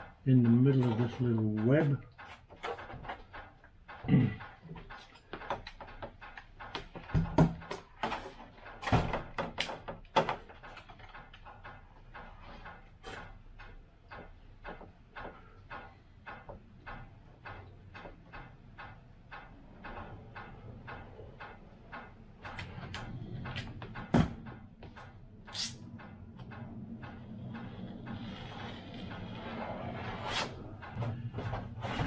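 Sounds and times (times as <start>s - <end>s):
light regular clicking: 0.0s - 32.0s.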